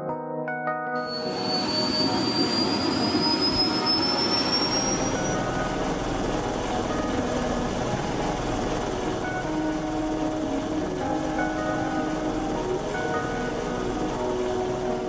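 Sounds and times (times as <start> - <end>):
helicopter turbine whine: 1.0 - 15.0
steady rushing noise: 1.0 - 15.0.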